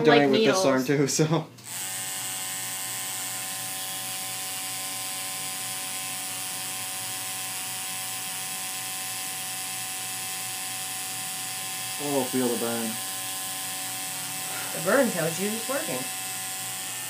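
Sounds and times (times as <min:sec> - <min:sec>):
tattoo machine buzzing: 0:01.6 - 0:17.0.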